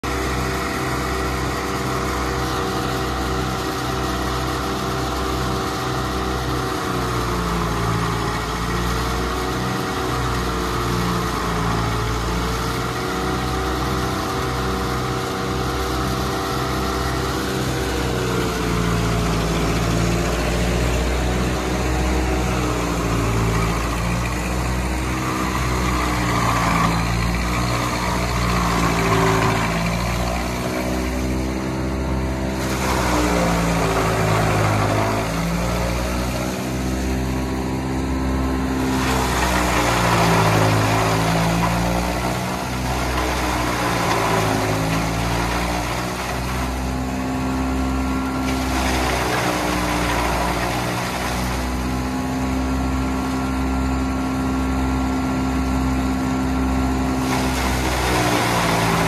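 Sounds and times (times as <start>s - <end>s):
tractor engine running: 0.0s - 59.0s
machine chopping and blowing hiss: 0.1s - 53.3s, 56.6s - 59.0s.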